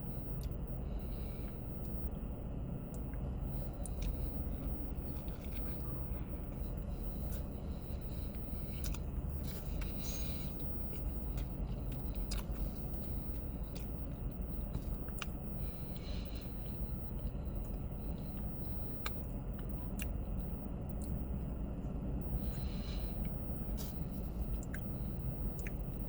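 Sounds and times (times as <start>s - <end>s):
person chewing sandwich: 0.0s - 2.2s, 2.8s - 26.0s
steady low rumble: 0.0s - 26.0s.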